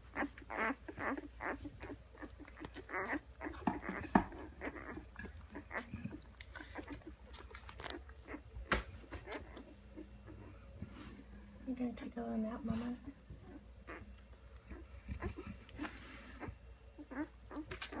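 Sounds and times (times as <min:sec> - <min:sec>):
puppies squeaking and whimpering: 0:00.0 - 0:18.0
puppies suckling: 0:00.0 - 0:18.0.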